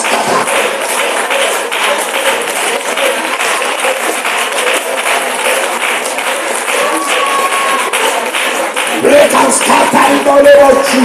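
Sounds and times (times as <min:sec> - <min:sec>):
congregation clapping: 0:00.0 - 0:11.0
many voices praying aloud: 0:00.0 - 0:11.0.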